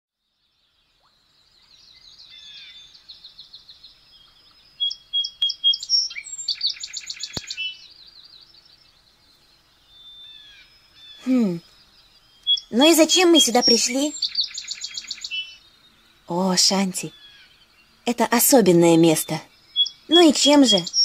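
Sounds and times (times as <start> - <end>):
songbirds chirping and trilling: 0.2 - 21.0.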